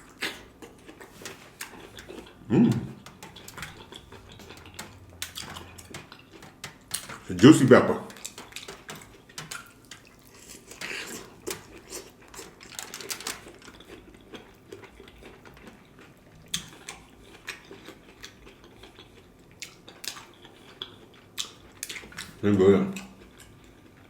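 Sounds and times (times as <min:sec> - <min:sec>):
close chewing with wet smacks: 0:00.0 - 0:24.0.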